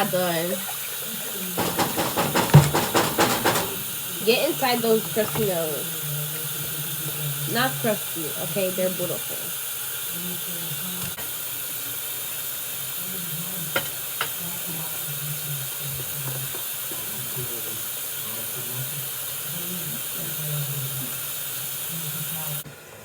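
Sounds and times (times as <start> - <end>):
faint muffled voices: 0.0 - 23.0
steady hiss: 0.0 - 23.0.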